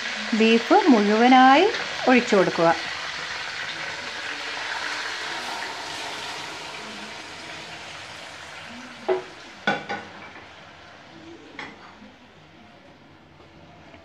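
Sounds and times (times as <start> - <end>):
hot oil sizzling: 0.0 - 12.5.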